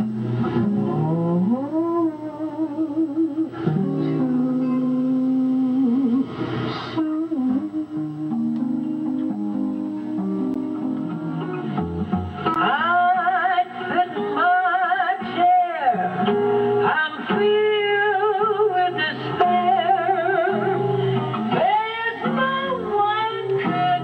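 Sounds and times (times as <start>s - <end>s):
plucked jazz guitar: 0.0s - 24.0s
woman singing with vibrato: 0.9s - 11.1s, 12.5s - 24.0s.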